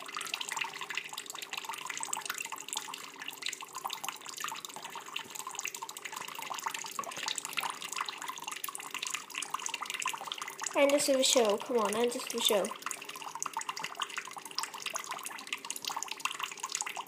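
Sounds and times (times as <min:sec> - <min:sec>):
tap water splashing into sink: 0:00.0 - 0:17.0.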